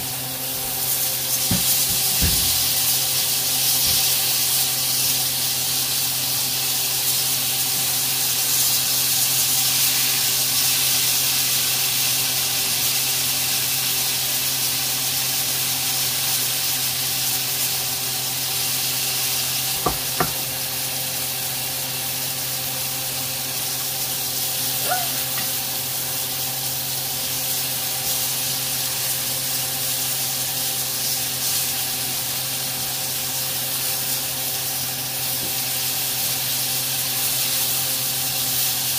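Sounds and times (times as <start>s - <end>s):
steaks sizzling in grill pan: 0.0s - 38.9s.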